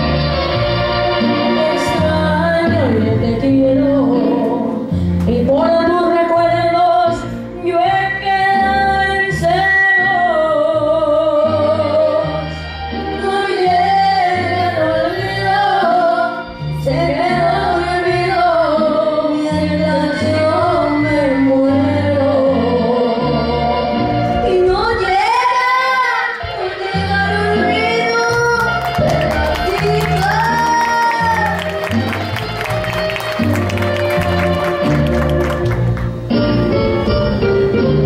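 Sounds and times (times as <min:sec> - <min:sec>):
backing music with bass line: 0:00.0 - 0:25.7, 0:26.4 - 0:38.0.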